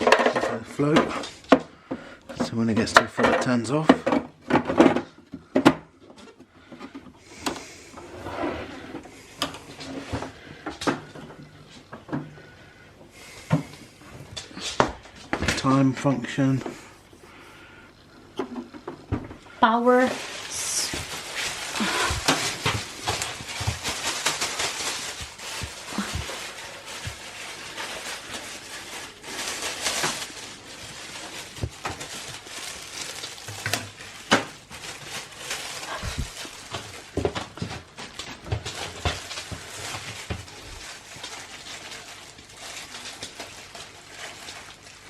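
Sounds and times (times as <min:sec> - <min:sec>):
plastic packaging rustling: 0:00.0 - 0:45.0.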